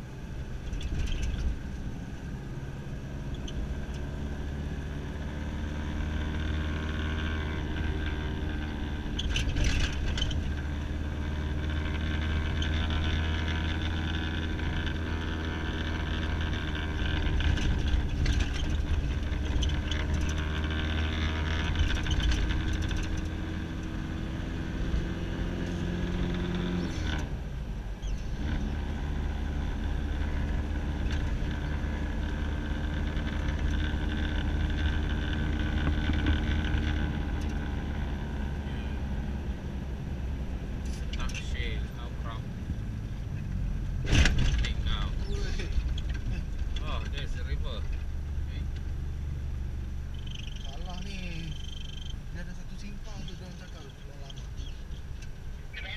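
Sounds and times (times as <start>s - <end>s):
car engine from inside cabin: 0.0s - 55.9s.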